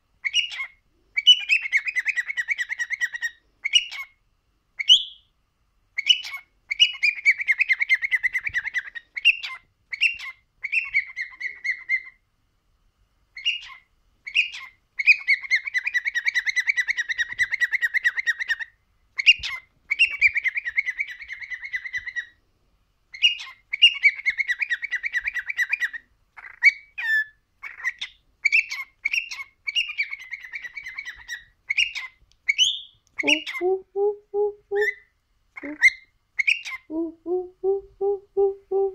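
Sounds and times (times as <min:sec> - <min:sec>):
cockatiel singing: 0:00.2 - 0:04.2, 0:06.0 - 0:12.2, 0:13.4 - 0:22.4, 0:23.1 - 0:38.9.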